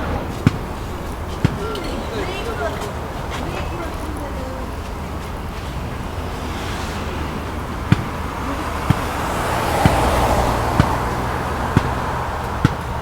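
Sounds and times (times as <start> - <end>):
car passing: 0.0 - 13.0
footsteps on pavement: 0.0 - 13.0
road traffic noise: 0.0 - 13.0.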